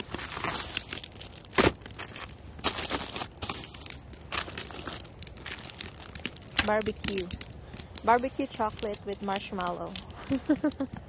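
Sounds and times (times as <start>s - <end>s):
loud crackle: 0.0s - 11.0s
plastic bag crinkling: 0.0s - 11.0s.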